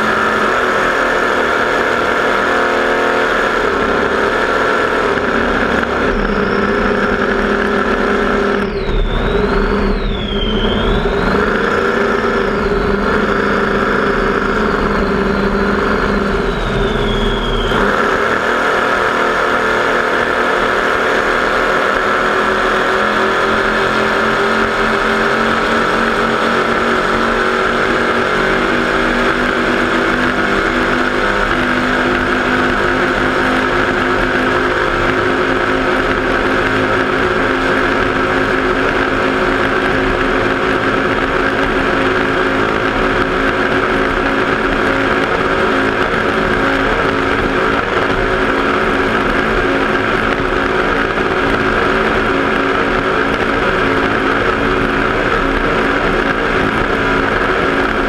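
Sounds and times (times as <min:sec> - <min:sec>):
high wavering whine: 0:00.0 - 0:58.0.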